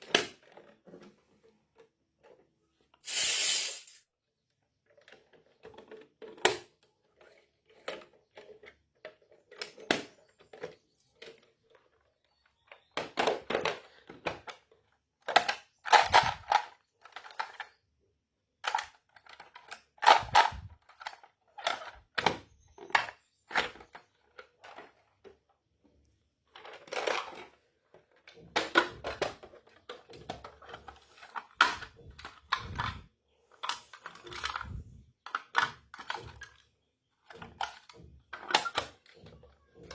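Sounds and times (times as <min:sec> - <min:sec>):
toy kitchen pieces clicking: 0:03.0 - 0:04.0, 0:04.8 - 0:25.3, 0:26.4 - 0:39.9.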